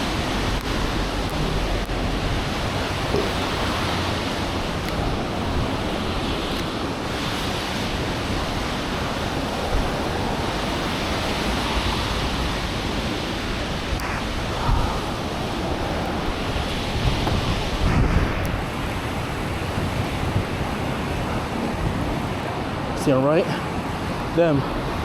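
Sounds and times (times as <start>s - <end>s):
storm wind on microphone: 0.0s - 25.0s.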